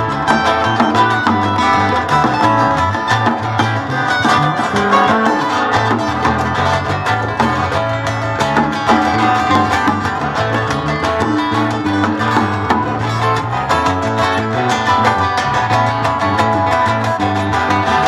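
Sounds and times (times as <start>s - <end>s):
bass line: 0.0s - 18.0s
plucked string picking: 0.0s - 18.0s.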